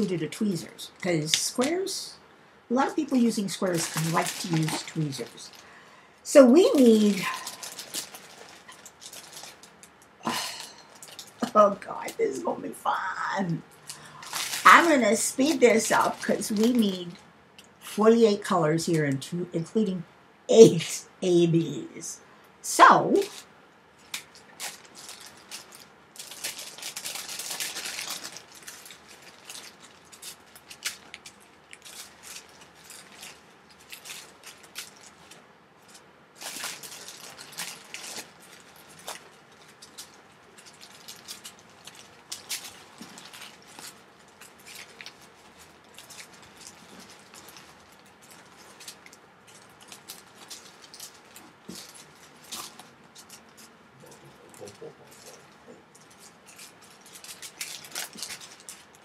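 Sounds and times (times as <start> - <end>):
plastic bags crinkling: 2.7 - 17.8, 23.2 - 59.0.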